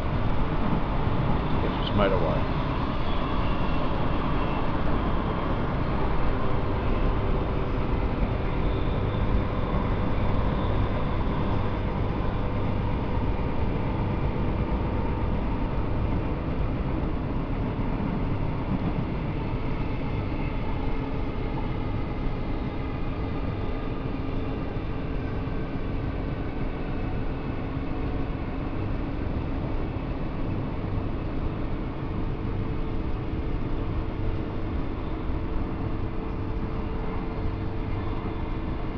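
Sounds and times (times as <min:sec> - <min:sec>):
faint steady whine: 0:00.0 - 0:38.9
train rumbling: 0:00.0 - 0:38.9.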